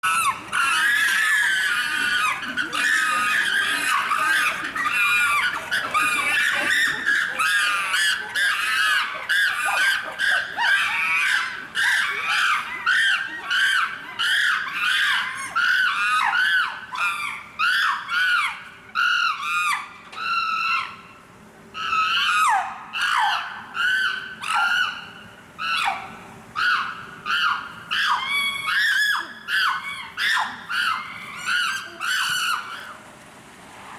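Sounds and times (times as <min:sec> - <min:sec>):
chimpanzees screaming: 0:00.0 - 0:21.1, 0:21.8 - 0:32.9.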